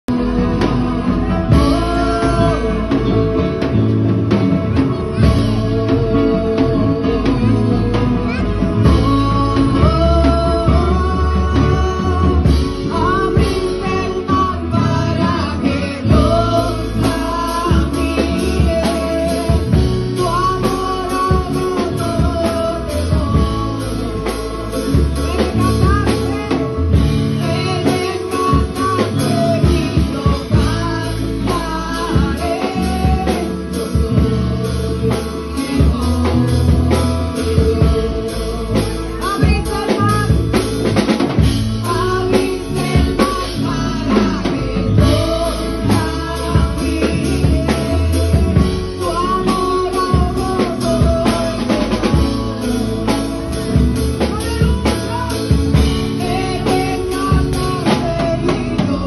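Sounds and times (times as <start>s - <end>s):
band with drum beat: 0.0s - 59.0s
woman singing into microphone: 0.1s - 59.0s.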